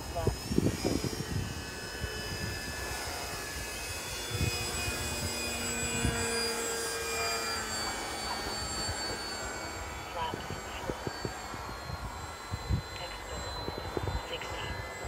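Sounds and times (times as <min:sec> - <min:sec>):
model plane motors whining: 0:00.0 - 0:15.0
wind rumbling on microphone: 0:00.0 - 0:15.0.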